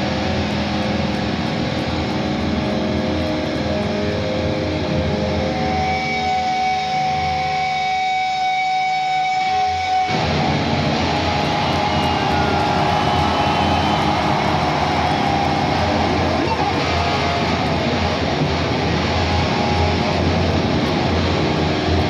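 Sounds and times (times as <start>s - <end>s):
electric guitar feedback drone: 0.0s - 22.0s.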